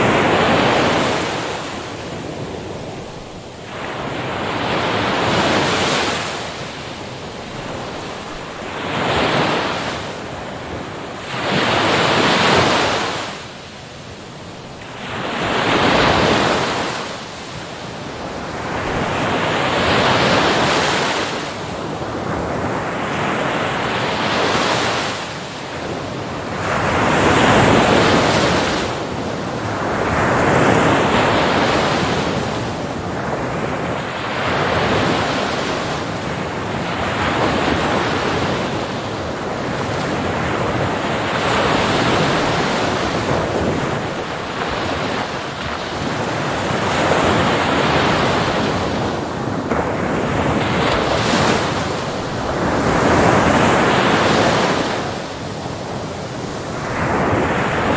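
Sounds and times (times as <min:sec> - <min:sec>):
waves breaking on beach: 0:00.0 - 0:57.9
wind noise on microphone: 0:00.0 - 0:57.9.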